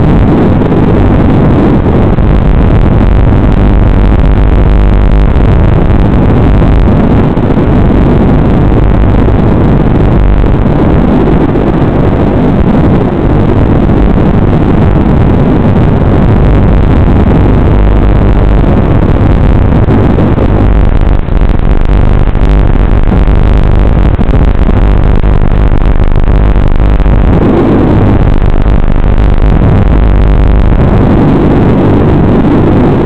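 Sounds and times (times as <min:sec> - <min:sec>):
wind noise: 0:00.0 - 0:33.0.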